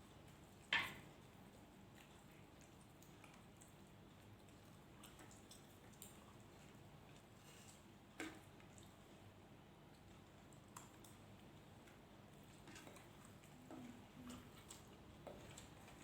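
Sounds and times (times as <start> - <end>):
soft eating clicks and squishes: 0.0 - 16.0.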